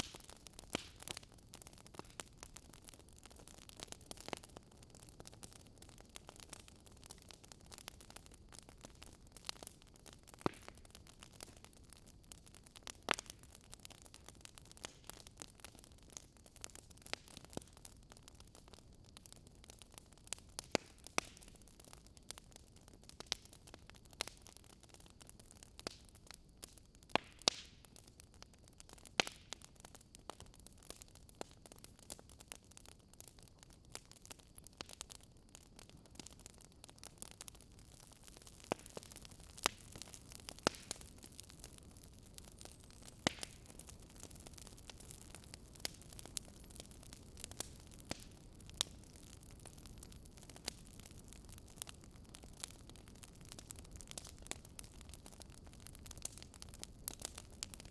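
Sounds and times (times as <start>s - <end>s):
wood fire hissing and crackling: 0.0s - 57.9s.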